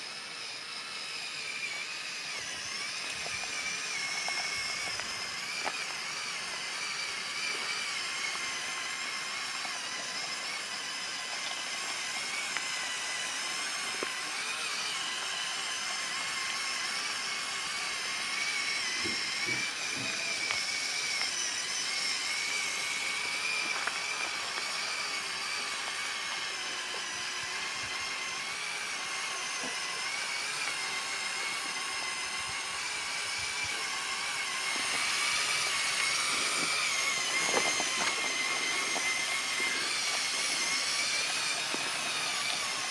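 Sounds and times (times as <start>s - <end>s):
toy truck electric motors whining: 0.0s - 42.9s.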